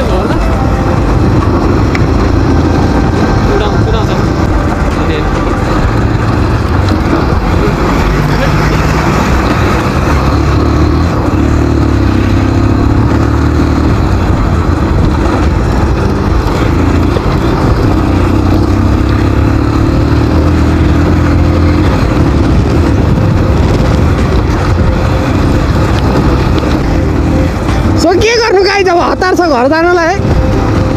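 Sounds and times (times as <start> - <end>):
motorcycle engine running: 0.0 - 30.9
steady rushing noise: 0.0 - 30.9.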